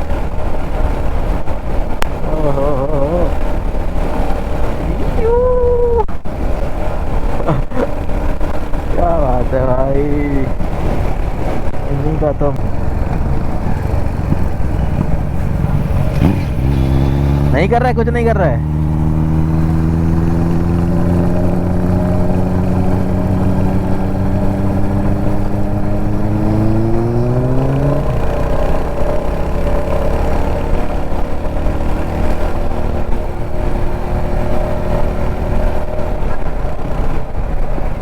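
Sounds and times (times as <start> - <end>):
wind and road noise: 0.0 - 38.0
motorcycle engine revving under load: 7.1 - 38.0.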